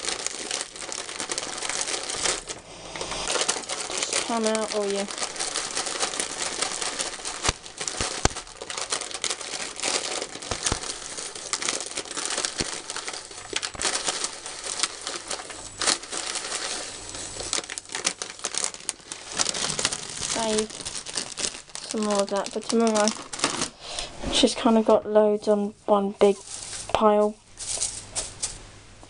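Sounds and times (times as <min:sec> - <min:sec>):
plastic packet crinkling: 0:00.0 - 0:23.8, 0:26.2 - 0:28.6.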